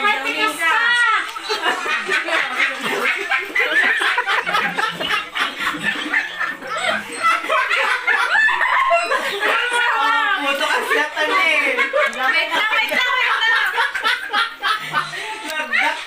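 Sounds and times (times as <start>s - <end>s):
women laughing: 0.0s - 16.0s.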